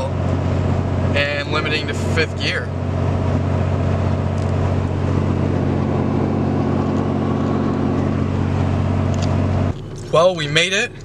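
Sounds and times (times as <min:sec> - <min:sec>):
pickup engine drone: 0:00.0 - 0:11.0
road noise: 0:00.0 - 0:11.0.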